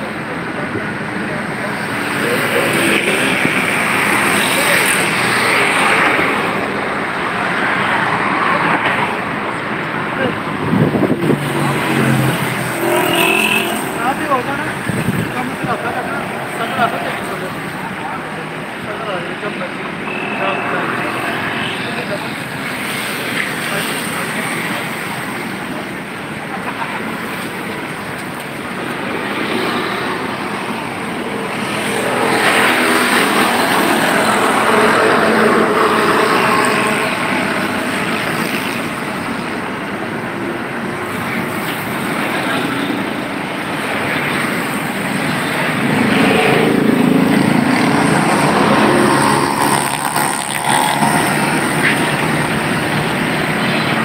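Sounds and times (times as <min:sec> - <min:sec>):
cars passing: 0:00.0 - 0:54.0
motorcycles passing: 0:00.0 - 0:54.0.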